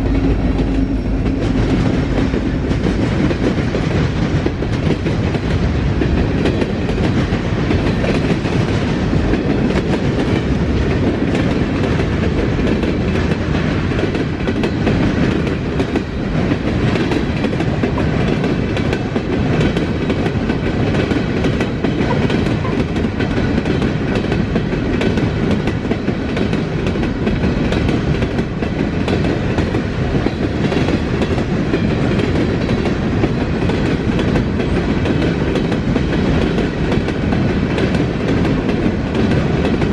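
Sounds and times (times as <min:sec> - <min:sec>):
railcars rumbling past: 0:00.0 - 0:39.9
wheels clacking over rail joints: 0:00.0 - 0:39.9.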